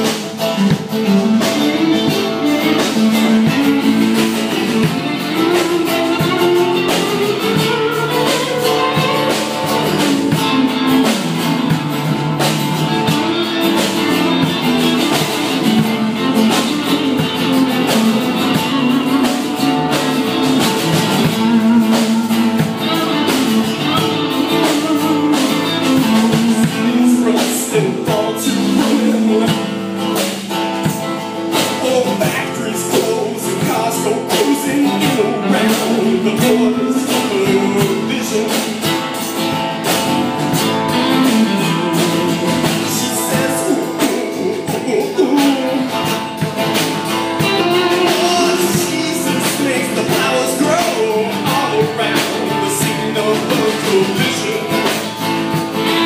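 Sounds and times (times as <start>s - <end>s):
electric bass guitar: 0.0s - 56.0s
second guitar playing a groove: 0.0s - 56.0s
strummed acoustic guitar: 0.0s - 56.0s.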